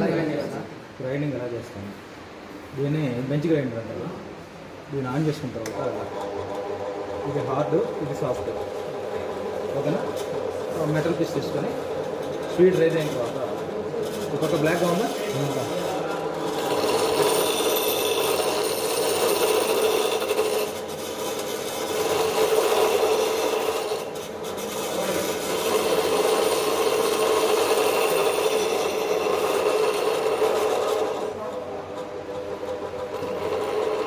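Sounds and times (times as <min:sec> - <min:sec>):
bench grinder grinding metal: 0:06.1 - 0:34.0.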